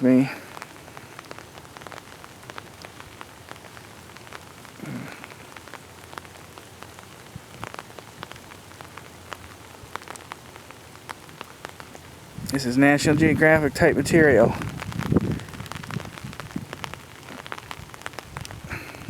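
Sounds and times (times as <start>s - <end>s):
rain falling: 0.0s - 19.0s
raindrop taps: 0.0s - 19.0s.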